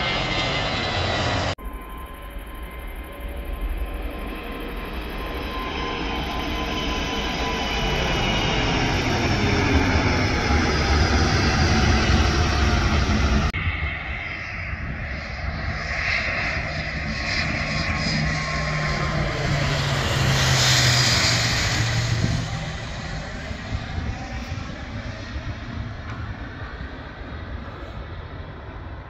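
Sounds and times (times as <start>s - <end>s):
jet airliner engine roar: 0.0s - 29.0s
jet engine noise: 0.0s - 29.0s.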